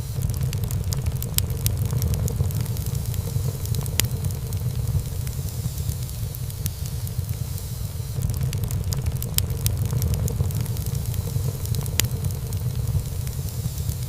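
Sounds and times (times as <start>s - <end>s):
crackles of burning wood: 0.0s - 14.0s
low rumble of flames: 0.0s - 14.0s.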